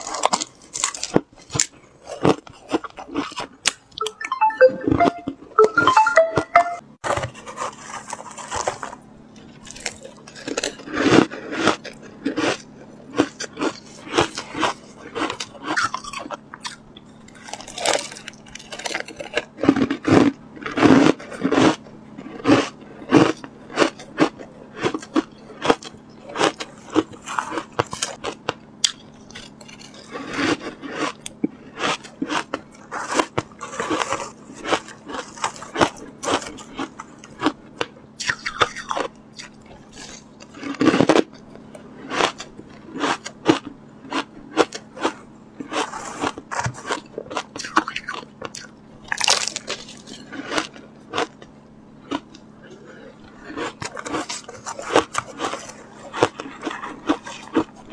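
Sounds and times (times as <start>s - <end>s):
ice being chewed: 0.0s - 6.6s, 7.4s - 57.9s.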